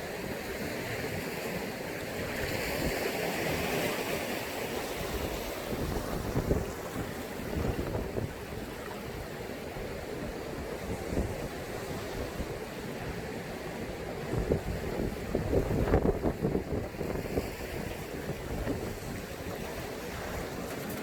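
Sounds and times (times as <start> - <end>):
sea waves washing in: 0.0 - 21.0
wind buffeting microphone: 2.1 - 13.1, 13.7 - 21.0.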